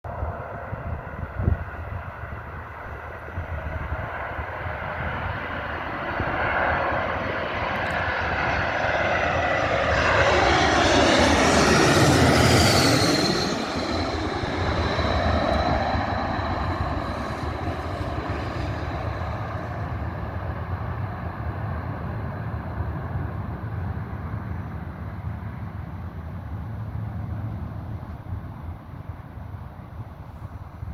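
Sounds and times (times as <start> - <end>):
airliner passing overhead: 0.1 - 30.9.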